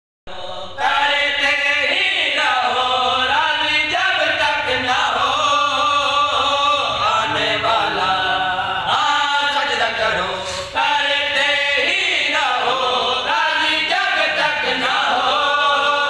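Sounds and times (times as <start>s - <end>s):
men chanting without instruments: 0.3s - 16.0s.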